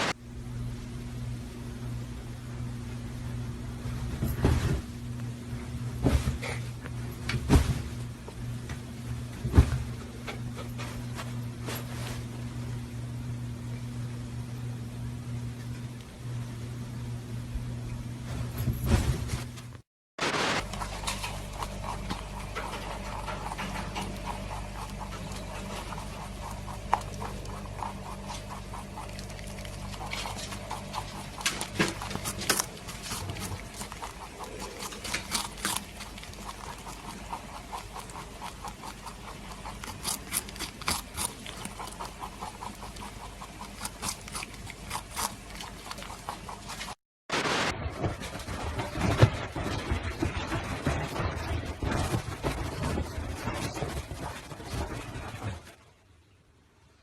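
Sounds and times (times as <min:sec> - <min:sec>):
steady low hum: 0:00.0 - 0:56.2.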